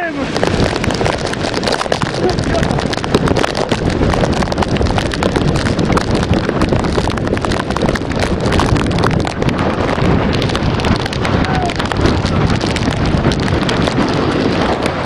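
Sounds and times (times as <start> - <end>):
water spray splashing: 0.0 - 15.0
wind buffeting microphone: 0.0 - 15.0.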